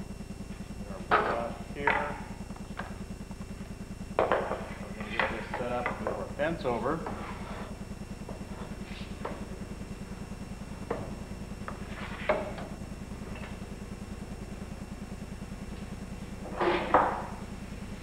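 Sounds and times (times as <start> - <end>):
low pulsing hum: 0.0 - 18.0.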